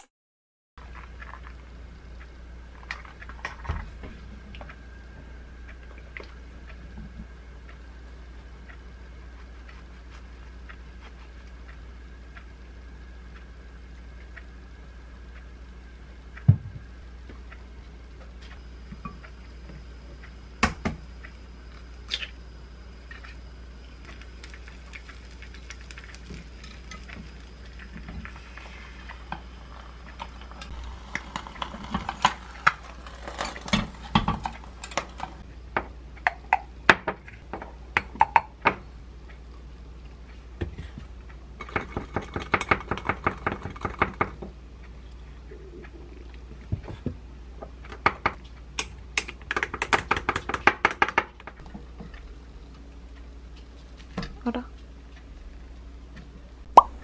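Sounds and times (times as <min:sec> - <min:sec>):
steady low hum: 0:00.8 - 0:50.6, 0:51.2 - 0:57.0.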